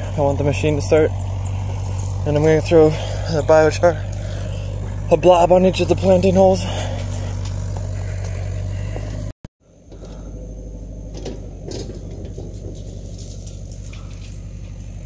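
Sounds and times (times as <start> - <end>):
excavator engine humming: 0.0 - 15.0.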